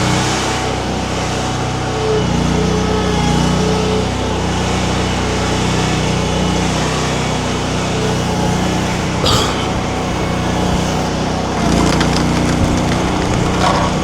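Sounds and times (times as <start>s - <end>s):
skid steer engine running: 0.0s - 14.0s.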